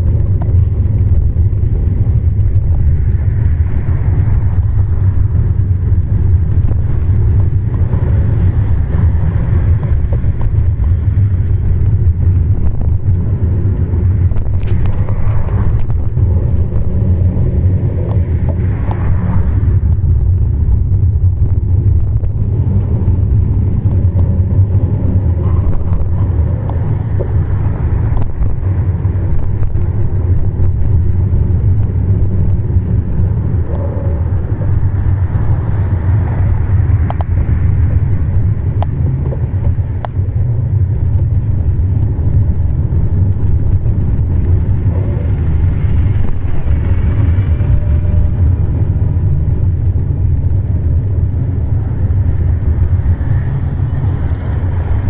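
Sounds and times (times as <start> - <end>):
bicycle tyre and road noise: 0.0 - 55.0
wind buffeting microphone: 0.0 - 55.0.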